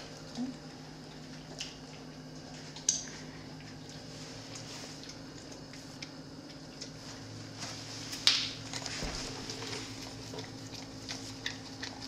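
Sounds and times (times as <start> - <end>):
dog licking and lapping: 0.0 - 7.3, 8.7 - 12.0.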